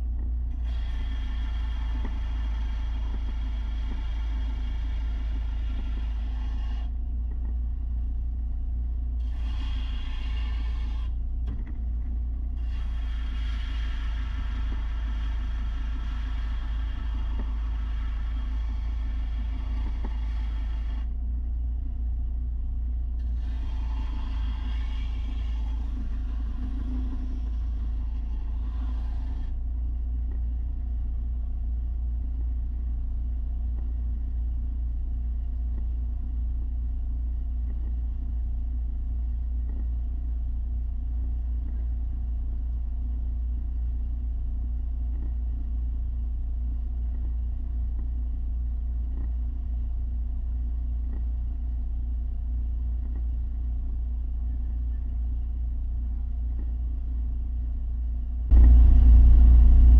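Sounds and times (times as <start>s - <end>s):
mechanical hum and rumble: 0.0s - 59.9s.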